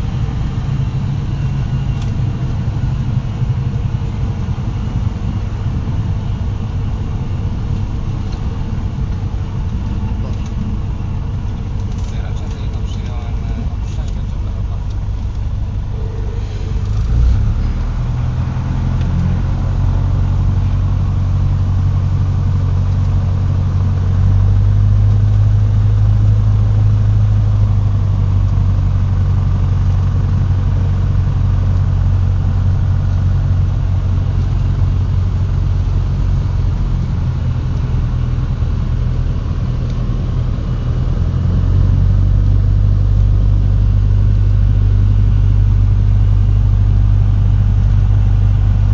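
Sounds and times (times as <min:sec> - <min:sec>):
light aircraft engine droning: 0:00.0 - 0:48.9.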